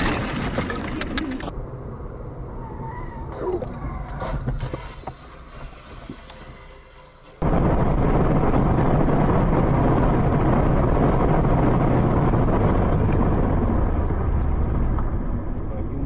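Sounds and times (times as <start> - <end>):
wind and road noise from car: 0.0 - 16.0.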